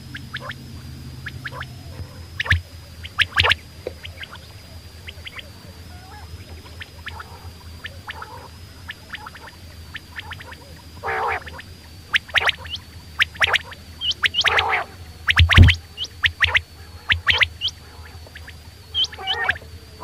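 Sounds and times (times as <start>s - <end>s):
quail warbling call: 0.0s - 19.6s
quail chirping: 0.1s - 0.6s, 1.2s - 19.6s.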